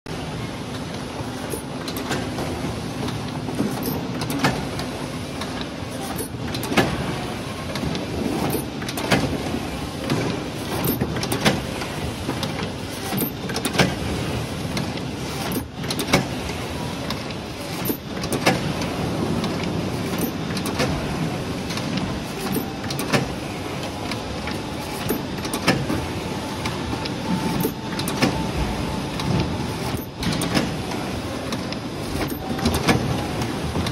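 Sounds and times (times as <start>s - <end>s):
steady machine hum: 0.1s - 33.9s.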